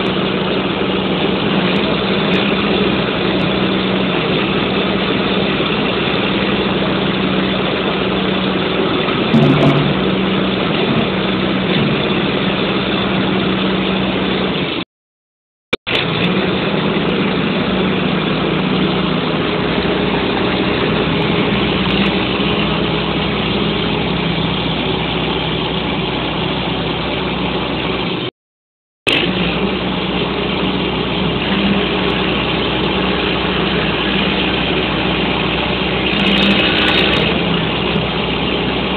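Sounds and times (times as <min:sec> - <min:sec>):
diesel engine running: 0:00.0 - 0:14.9, 0:15.8 - 0:28.3, 0:29.1 - 0:38.9.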